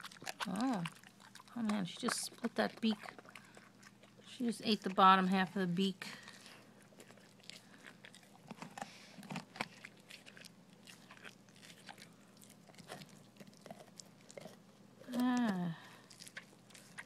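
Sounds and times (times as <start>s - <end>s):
dog crunching and gnawing bones: 0.0s - 17.0s.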